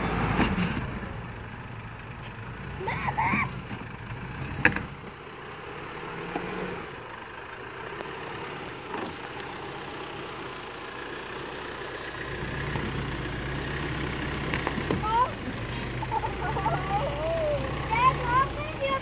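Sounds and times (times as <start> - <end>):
diesel engine at low revs: 0.0 - 19.0.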